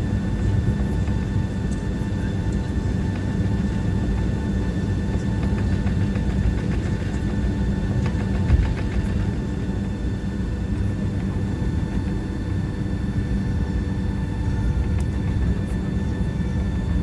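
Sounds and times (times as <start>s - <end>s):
airliner cabin low rumble: 0.0s - 17.0s
faint steady whining tones: 0.0s - 17.0s.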